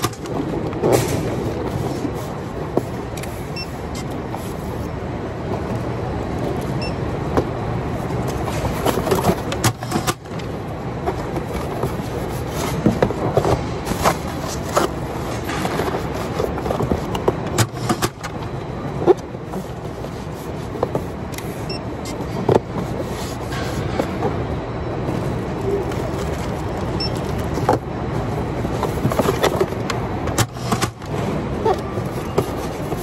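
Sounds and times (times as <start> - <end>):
machinery hum: 0.0 - 33.0.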